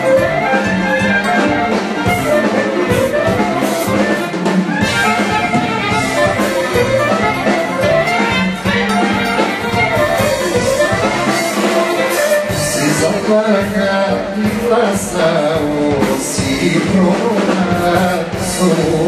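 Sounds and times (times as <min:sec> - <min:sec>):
folk dance music with horns: 0:00.0 - 0:19.0.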